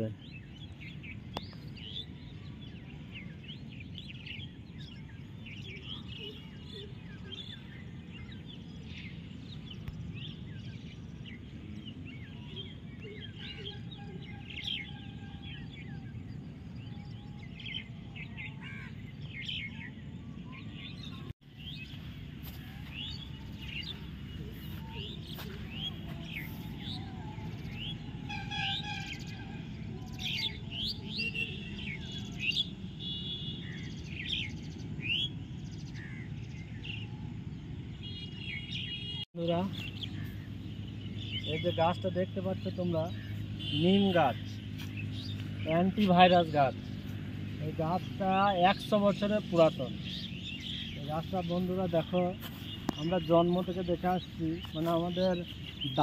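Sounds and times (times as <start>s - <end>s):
birds chirping and calling: 0.0s - 56.0s
low outdoor rumble: 0.2s - 38.6s, 39.4s - 56.0s.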